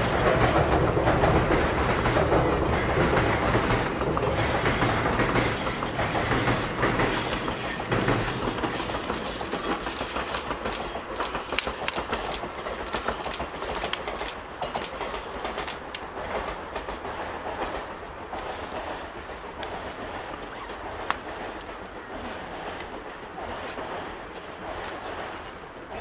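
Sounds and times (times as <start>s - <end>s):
train rumbling across bridge: 0.0s - 26.0s
wheels clicking over rail joints: 0.0s - 26.0s.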